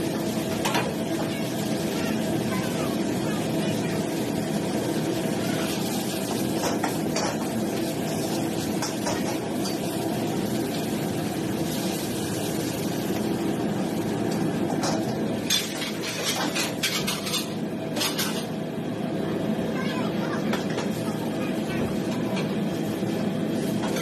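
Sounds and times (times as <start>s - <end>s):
gas burner and extractor rushing: 0.0s - 24.0s.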